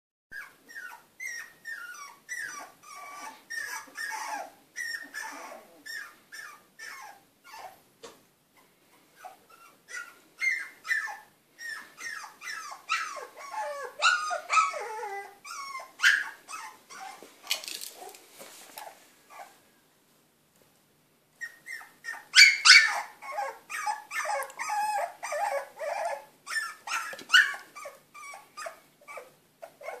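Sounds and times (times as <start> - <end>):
puppy whimpering: 0.4 - 7.8, 9.2 - 17.3, 18.8 - 19.6, 21.4 - 30.0.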